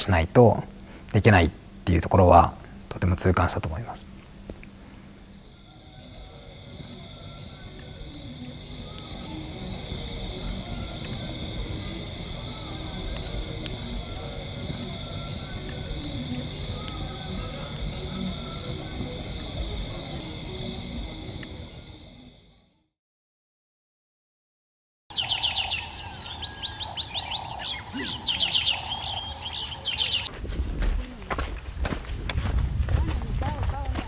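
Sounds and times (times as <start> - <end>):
crickets and insects trilling: 0.0 - 22.7, 25.1 - 33.8.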